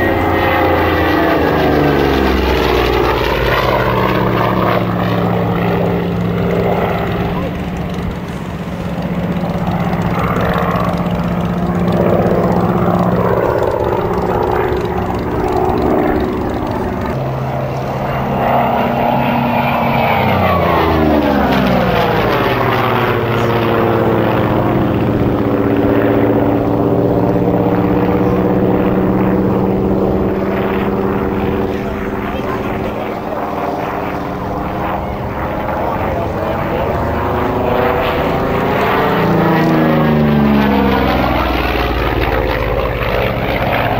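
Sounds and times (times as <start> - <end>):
propeller plane engine droning: 0.0 - 43.9.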